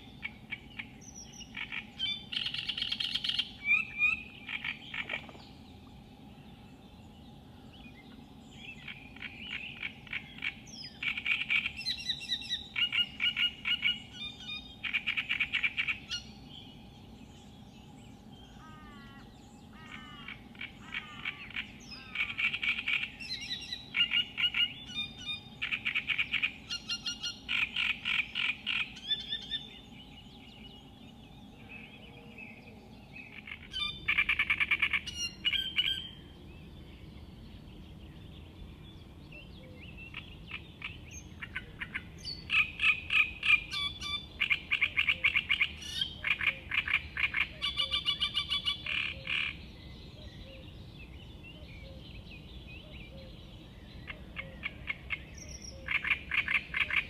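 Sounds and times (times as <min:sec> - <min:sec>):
warbler singing harsh song: 0:00.0 - 0:57.0.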